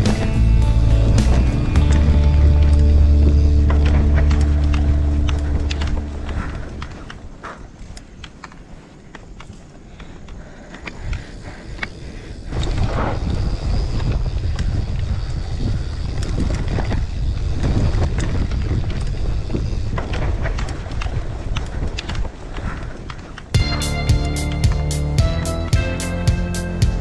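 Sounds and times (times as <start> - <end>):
wind rumbling on microphone: 0.0 - 24.6
bike clicking and rattling: 0.0 - 27.0.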